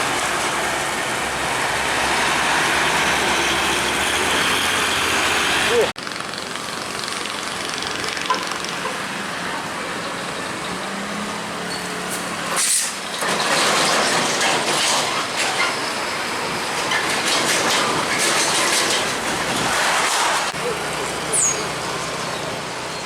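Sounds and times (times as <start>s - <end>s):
traffic engine drone: 0.0s - 23.0s
truck passing: 0.0s - 23.0s.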